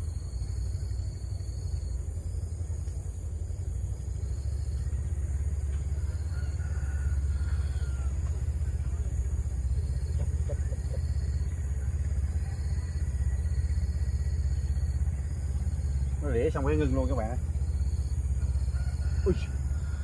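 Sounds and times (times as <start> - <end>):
high insect drone: 0.0 - 20.0
steady low rumble: 0.0 - 20.0.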